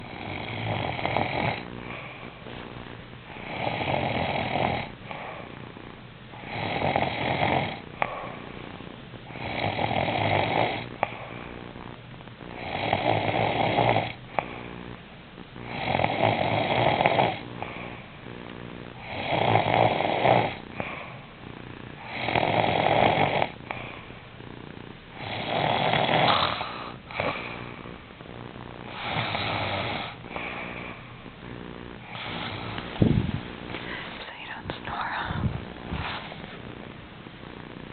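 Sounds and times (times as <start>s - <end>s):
man snoring: 0.0s - 11.9s, 12.5s - 15.0s, 15.6s - 21.2s, 22.0s - 28.0s, 28.8s - 31.2s, 31.8s - 36.9s.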